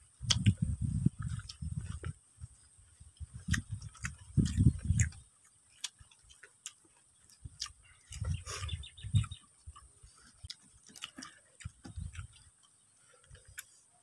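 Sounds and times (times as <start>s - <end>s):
person chewing and lip smacking: 0.2s - 13.8s.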